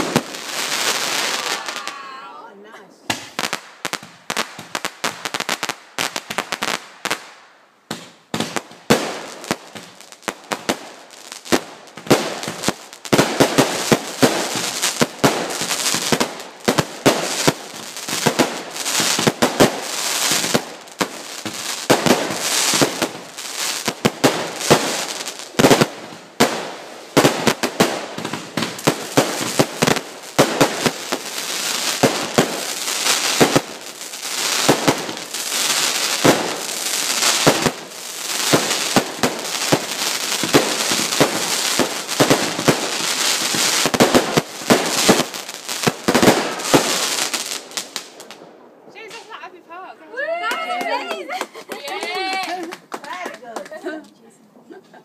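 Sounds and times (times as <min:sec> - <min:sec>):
fireworks hiss: 0:00.0 - 0:02.0, 0:03.0 - 0:48.4
fireworks bangs: 0:00.0 - 0:53.9.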